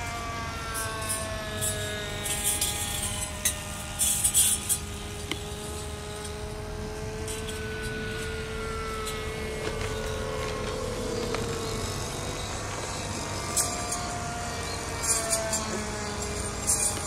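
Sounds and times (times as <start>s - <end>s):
loud crackles: 0.0s - 17.0s
model plane motor running: 0.0s - 17.0s.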